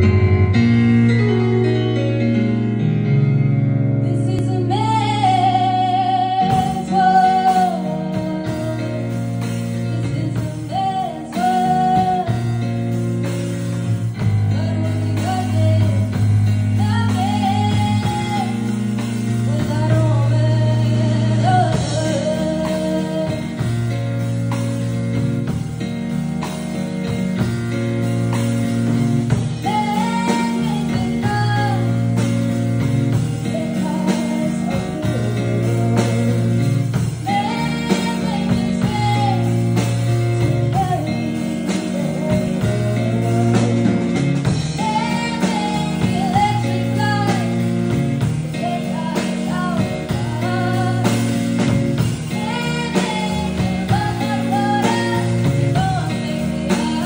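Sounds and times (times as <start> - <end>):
keyboard sustained chords: 0.0 - 57.0
woman singing with vibrato: 4.0 - 13.0, 14.2 - 24.2, 29.2 - 57.0.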